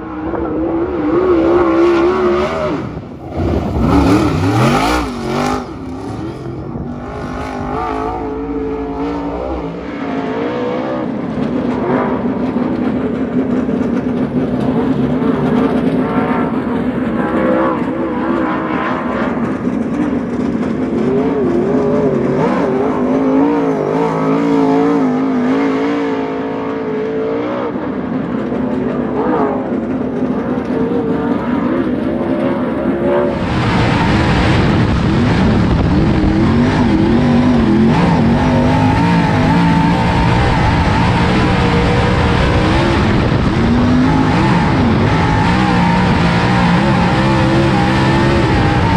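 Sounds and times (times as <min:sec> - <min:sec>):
race car engine at speed: 0:00.0 - 0:48.9.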